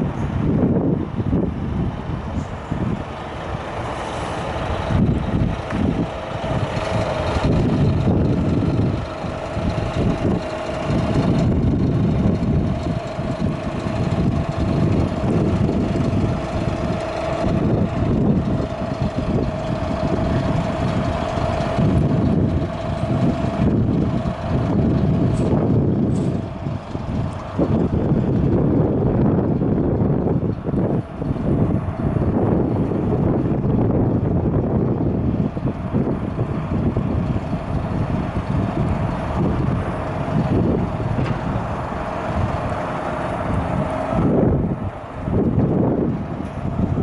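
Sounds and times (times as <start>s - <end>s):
truck diesel engine running: 0.0s - 47.0s.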